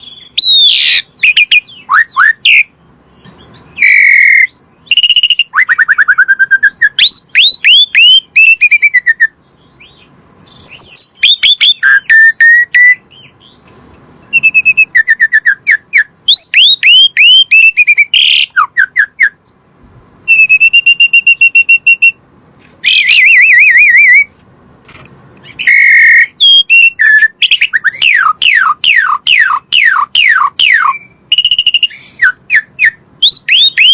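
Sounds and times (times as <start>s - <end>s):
starling singing whistles: 0.0s - 2.8s, 3.4s - 19.4s, 20.3s - 22.2s, 22.8s - 24.3s, 25.4s - 33.9s.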